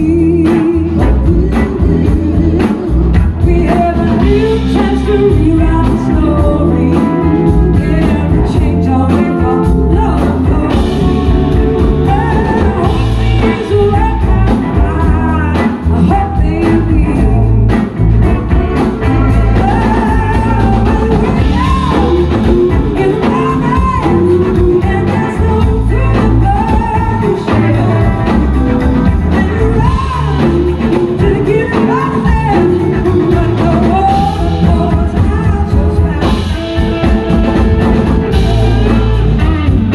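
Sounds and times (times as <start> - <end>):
bass: 0.0 - 39.9
drum kit: 0.0 - 39.9
electric guitars: 0.0 - 39.9
woman singing lead: 0.0 - 39.9.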